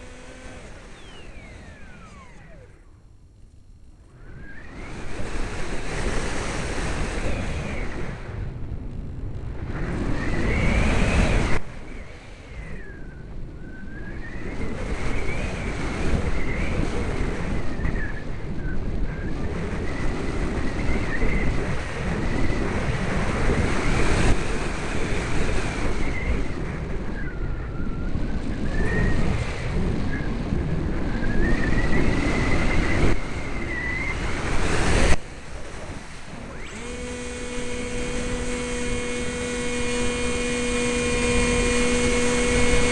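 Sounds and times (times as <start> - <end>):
model plane electric motor whine: 0.0 - 3.1, 4.0 - 8.3, 9.8 - 42.9
wind rushing over microphone: 0.0 - 42.9.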